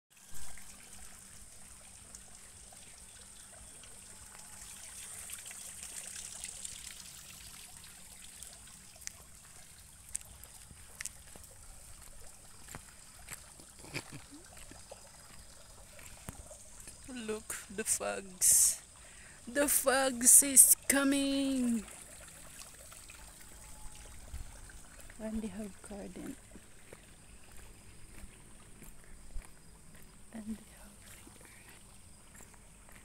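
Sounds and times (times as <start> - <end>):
fountain water trickling: 0.2 - 33.0.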